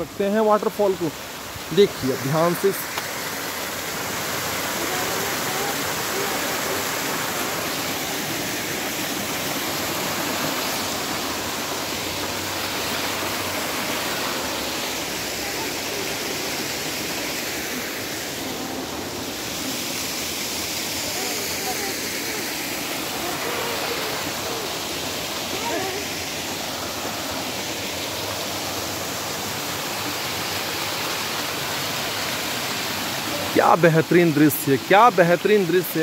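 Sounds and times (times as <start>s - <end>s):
small waterfall rushing: 0.0s - 36.0s.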